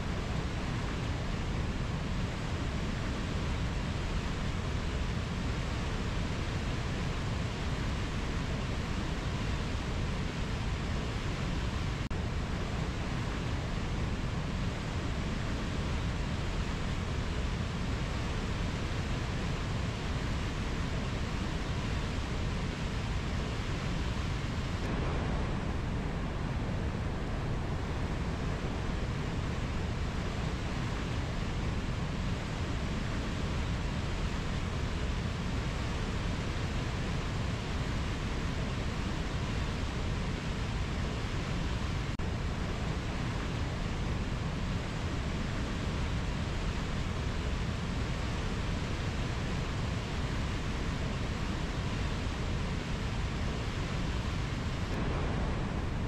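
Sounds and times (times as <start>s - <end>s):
river rushing over rapids: 0.1s - 56.0s.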